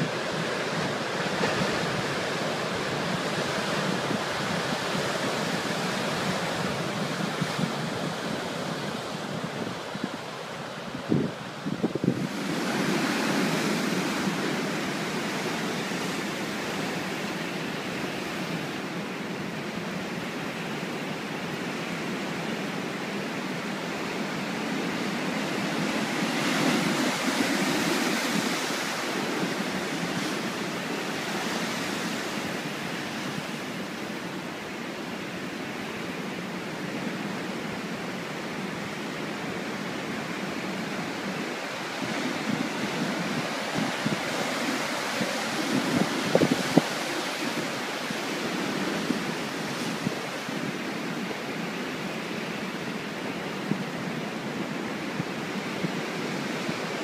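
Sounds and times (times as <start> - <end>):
waves breaking on rocks: 0.0 - 19.7, 23.8 - 57.0.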